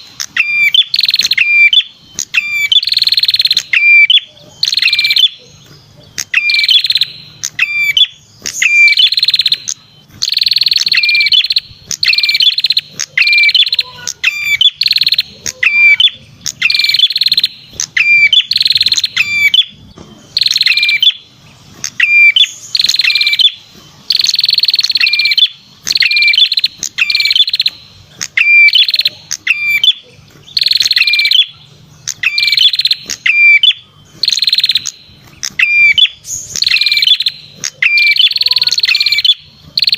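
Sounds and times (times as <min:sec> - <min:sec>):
buzzy bird trill with chirps: 0:00.0 - 0:39.9.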